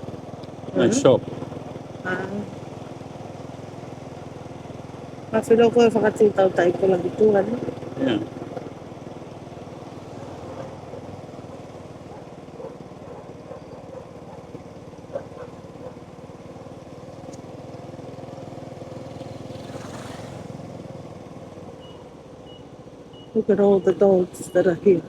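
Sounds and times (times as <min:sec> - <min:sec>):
small motorbike engine running: 0:00.0 - 0:25.0.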